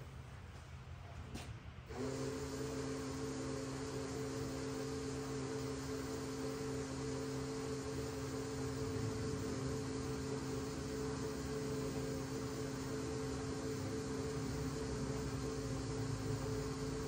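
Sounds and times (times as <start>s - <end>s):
machine humming: 1.9s - 17.0s.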